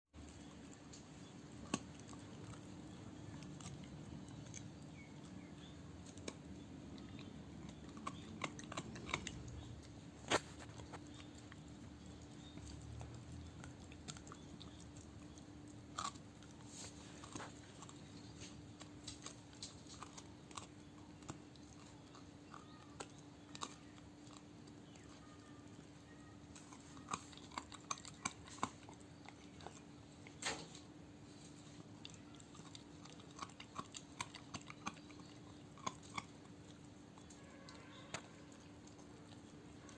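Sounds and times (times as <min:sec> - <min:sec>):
dog gnawing a chew bone: 0:00.2 - 0:39.9
faint steady hum: 0:00.2 - 0:39.9.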